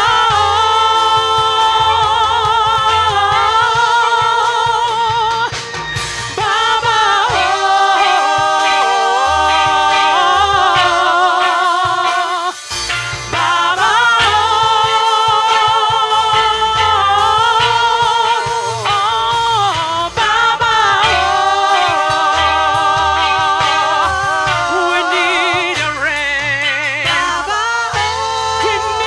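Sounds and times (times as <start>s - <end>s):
gospel singing with vibrato: 0.0s - 29.0s
low instrumental backing: 0.0s - 29.0s.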